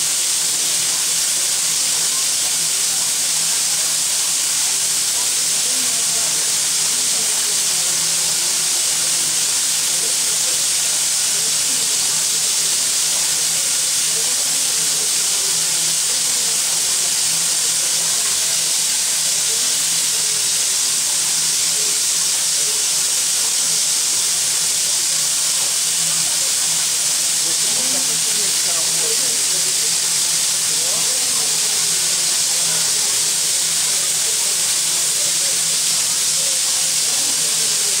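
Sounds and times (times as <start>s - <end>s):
steam venting hiss: 0.0s - 38.0s.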